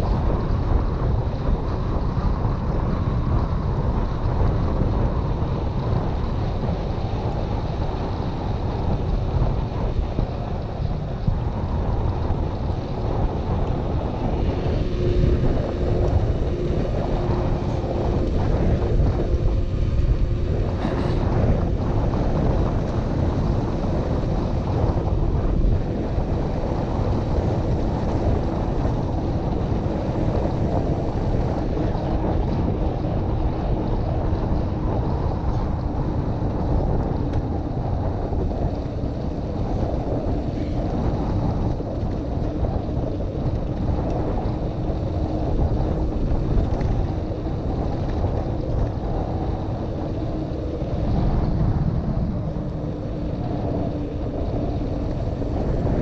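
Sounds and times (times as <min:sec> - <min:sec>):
tyre noise on wet asphalt: 0:00.0 - 0:56.0
wind buffeting microphone: 0:00.0 - 0:56.0.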